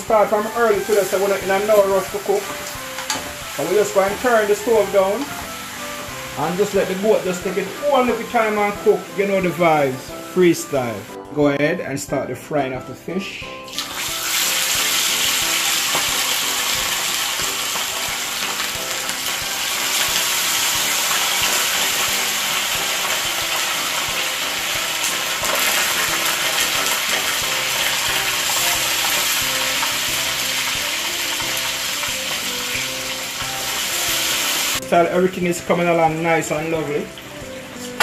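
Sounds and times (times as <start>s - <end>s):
fish sizzling in hot oil: 0.0s - 11.2s, 13.6s - 34.9s.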